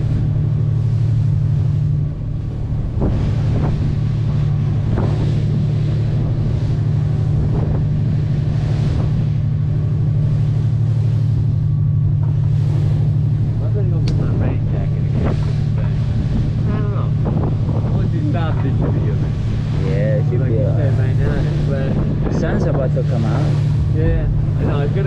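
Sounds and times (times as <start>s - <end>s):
boat engine droning: 0.0s - 25.0s
waves splashing along hull: 0.0s - 25.0s
wind buffeting microphone: 0.0s - 25.0s.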